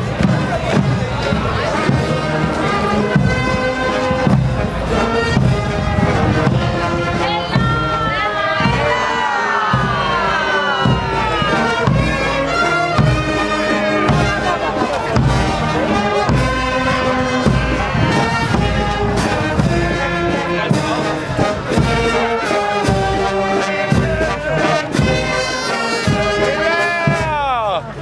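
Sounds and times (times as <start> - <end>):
trumpets and trombones: 0.0 - 27.9
steady drumbeat: 0.0 - 28.0.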